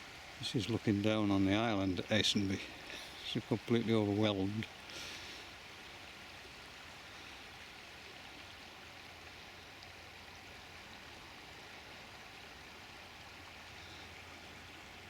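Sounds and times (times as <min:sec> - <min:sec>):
faint rushing river: 0:00.0 - 0:15.0.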